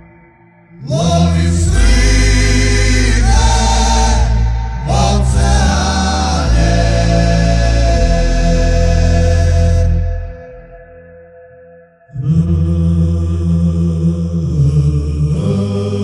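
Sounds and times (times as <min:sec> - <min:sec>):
steady low drone: 0:00.0 - 0:11.2, 0:12.1 - 0:16.0
wordless male choir: 0:00.7 - 0:10.4, 0:12.1 - 0:16.0.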